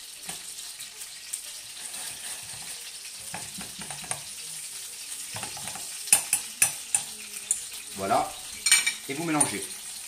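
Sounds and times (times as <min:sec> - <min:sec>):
food sizzling in pans: 0:00.0 - 0:10.0
stirring in a small saucepan: 0:01.5 - 0:10.0.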